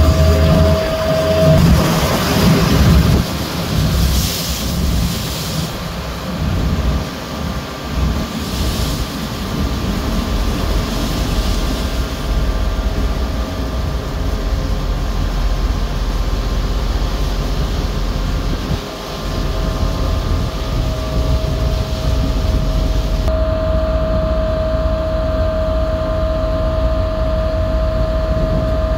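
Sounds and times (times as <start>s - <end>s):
boat engines droning: 0.0s - 28.9s
water rushing along hull: 0.0s - 28.9s.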